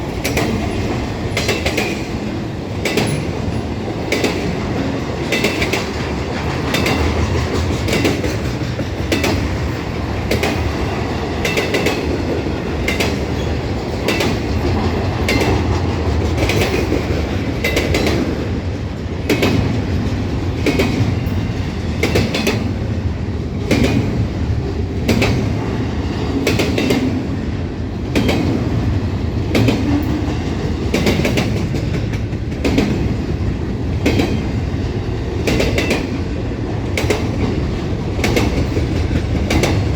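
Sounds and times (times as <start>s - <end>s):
wheels clacking on rail joints: 0.0s - 22.9s, 23.6s - 27.3s, 28.0s - 39.9s
train rumbling past: 0.0s - 39.9s.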